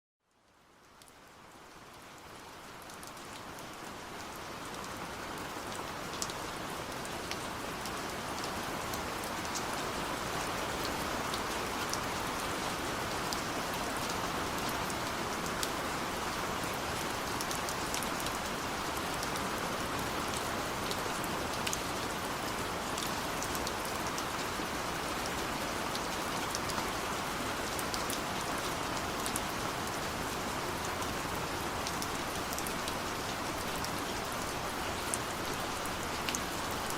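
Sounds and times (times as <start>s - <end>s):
steady rain falling: 0.2s - 36.9s.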